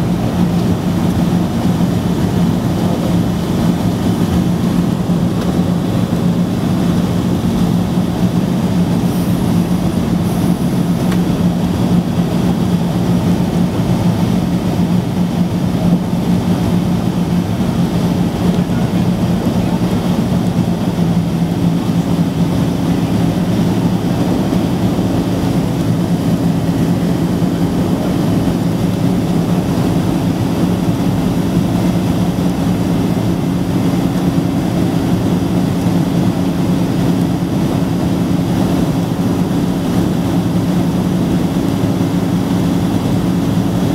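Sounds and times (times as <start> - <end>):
jet engine cabin noise: 0.0 - 43.9.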